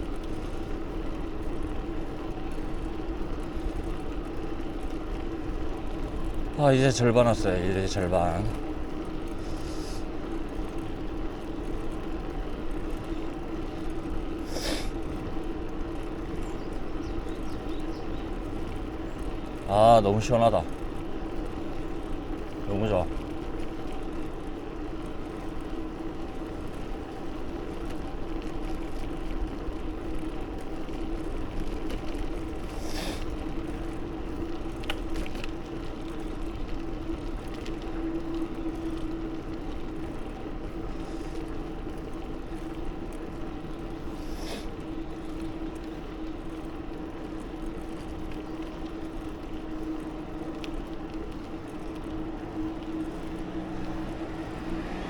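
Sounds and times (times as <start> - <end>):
bicycle tyres rolling: 0.0 - 55.0.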